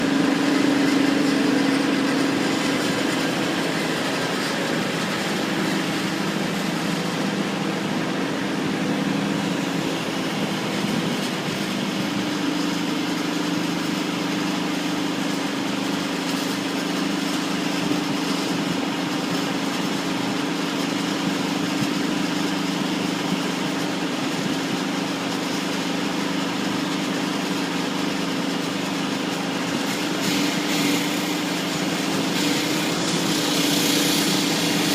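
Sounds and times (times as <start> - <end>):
concrete saw engine running: 0.0 - 34.9.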